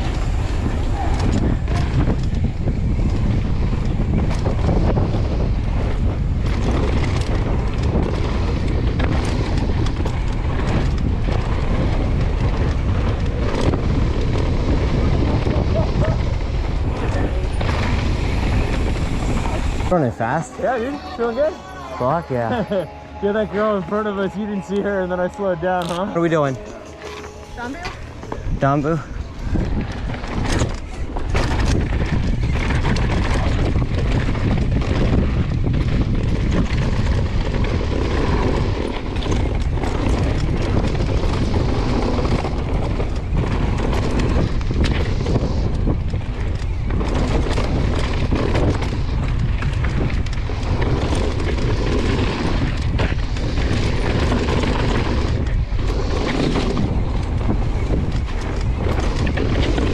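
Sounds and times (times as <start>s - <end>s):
bike clattering over bumps: 0.0s - 20.0s, 27.1s - 59.9s
bike tyres on dirt trail: 0.0s - 59.9s
wind rushing over microphone: 0.0s - 59.9s.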